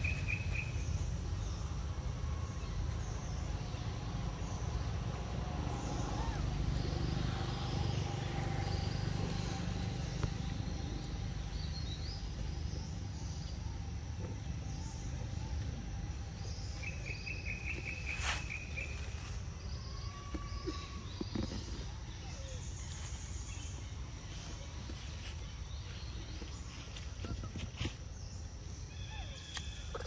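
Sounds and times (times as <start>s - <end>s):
birds calling: 0.0s - 1.7s, 2.4s - 30.0s
low steady rumble: 0.0s - 30.0s.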